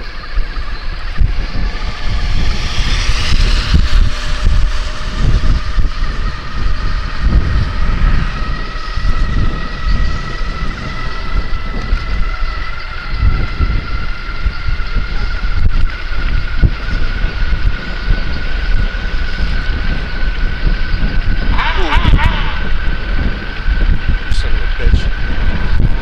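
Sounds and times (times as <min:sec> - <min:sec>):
electric motor whine: 0:00.0 - 0:26.0
wind buffeting microphone: 0:00.0 - 0:26.0.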